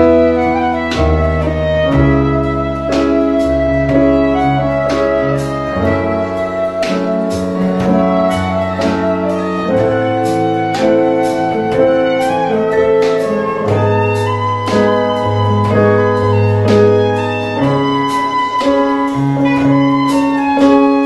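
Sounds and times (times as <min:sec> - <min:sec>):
instrumental music: 0:00.0 - 0:21.0.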